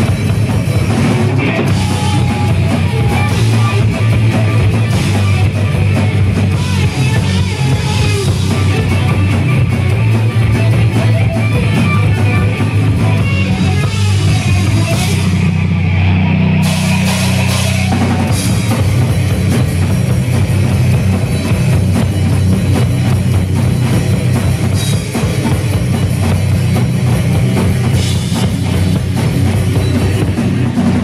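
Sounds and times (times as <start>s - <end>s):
heavy metal band playing: 0.0s - 31.0s.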